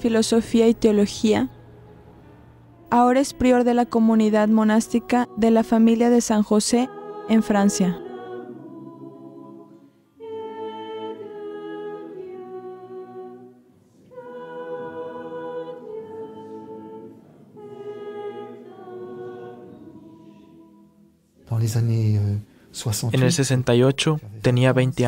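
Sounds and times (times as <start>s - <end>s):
choir singing a chant: 0.0s - 22.4s.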